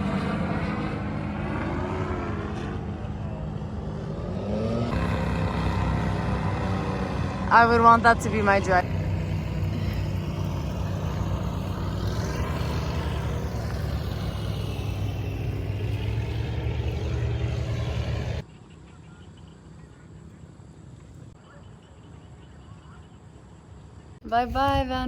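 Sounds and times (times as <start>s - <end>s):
road noise: 0.0s - 25.0s
vehicle engine hum: 0.0s - 25.0s.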